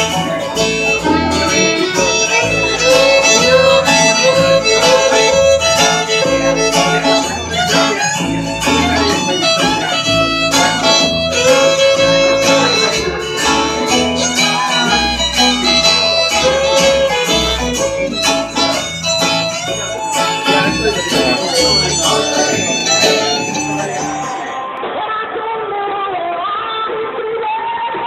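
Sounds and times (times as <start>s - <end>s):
fiddle holding long notes: 0.0s - 24.7s
live band playing: 0.0s - 24.8s.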